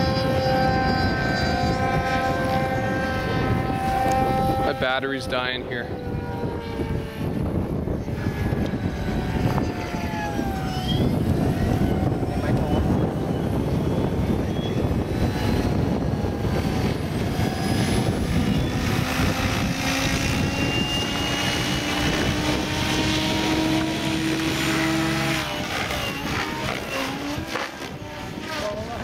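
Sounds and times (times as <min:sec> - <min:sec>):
helicopter rotor chopping: 0:00.0 - 0:29.0
motor whine: 0:00.0 - 0:29.0.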